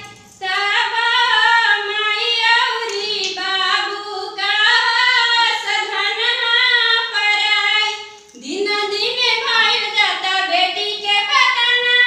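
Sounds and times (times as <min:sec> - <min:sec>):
girl singing unaccompanied: 0:00.0 - 0:12.0.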